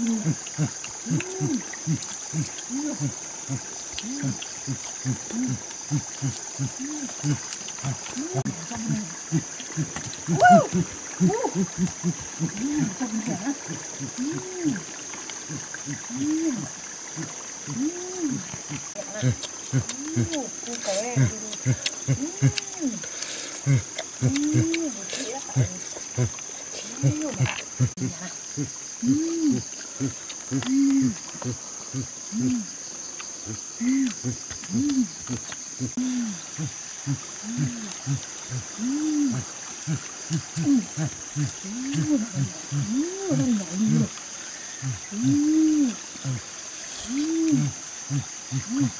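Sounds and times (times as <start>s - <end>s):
person making ape-like hoots: 0.0s - 23.0s, 23.6s - 32.7s, 33.8s - 44.2s, 47.0s - 48.9s
human grunts and hums: 0.0s - 32.8s, 33.4s - 48.9s
high-pitched insect drone: 0.0s - 48.9s.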